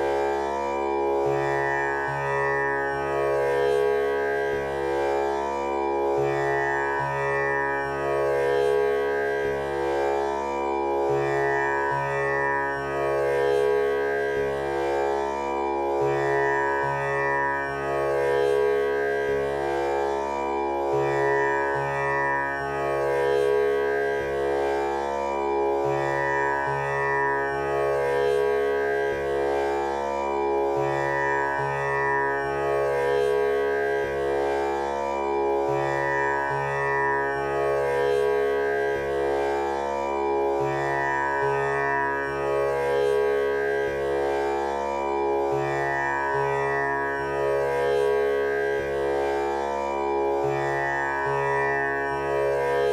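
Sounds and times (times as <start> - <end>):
tanpura drone: 0.0 - 52.9.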